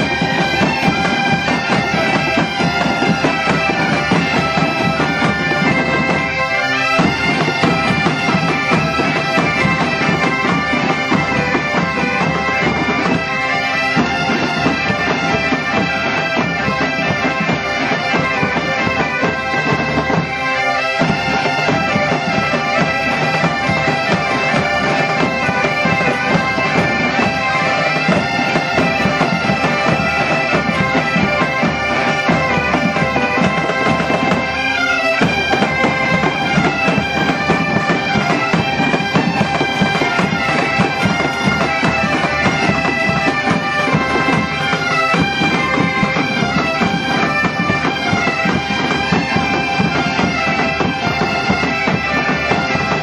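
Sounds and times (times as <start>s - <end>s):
bagpipes playing with drones: 0.0s - 53.0s
bass drum and snare: 7.0s - 53.0s.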